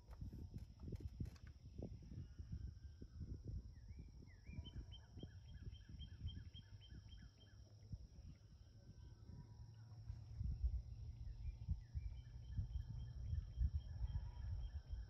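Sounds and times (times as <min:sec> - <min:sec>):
songbird singing repeated notes: 0:01.7 - 0:09.9, 0:10.9 - 0:15.0.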